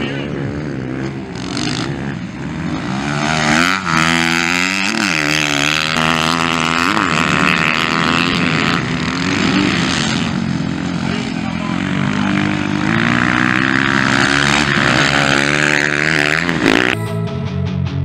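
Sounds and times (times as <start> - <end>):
dirt bike engines revving: 0.0 - 17.2.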